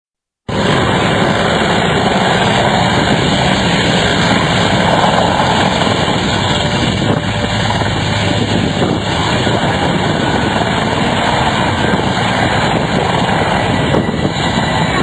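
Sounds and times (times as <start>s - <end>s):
helicopter rotor chop and engine: 0.5s - 15.0s.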